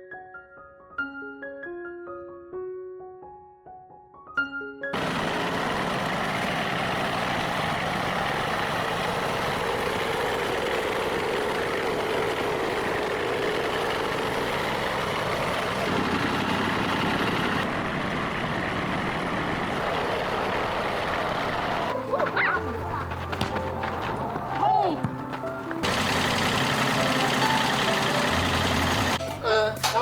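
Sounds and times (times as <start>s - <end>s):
tractor engine running: 5.0s - 29.4s.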